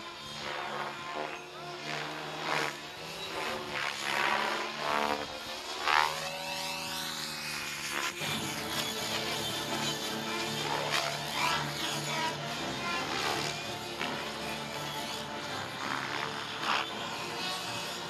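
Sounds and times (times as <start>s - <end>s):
model helicopter rotor whine: 0.0s - 18.0s.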